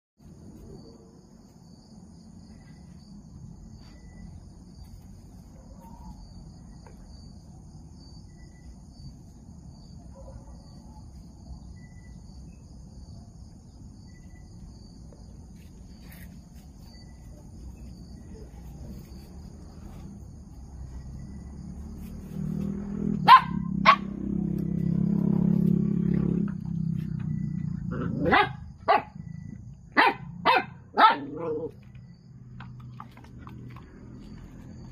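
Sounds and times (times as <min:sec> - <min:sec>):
crickets trilling: 0:00.2 - 0:34.9
lower insect chirp: 0:00.2 - 0:34.9.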